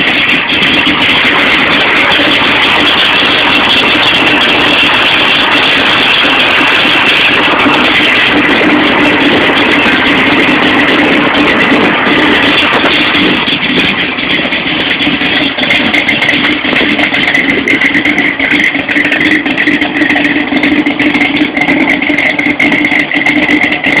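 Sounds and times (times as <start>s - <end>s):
vee eight engine idling lumpily: 0.0s - 24.0s.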